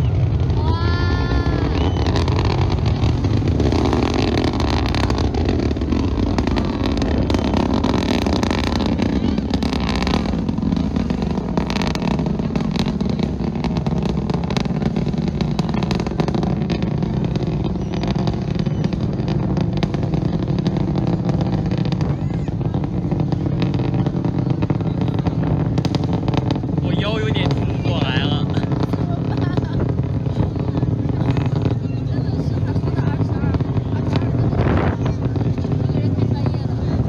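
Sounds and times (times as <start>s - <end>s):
rocket engines rumbling: 0.0s - 37.0s.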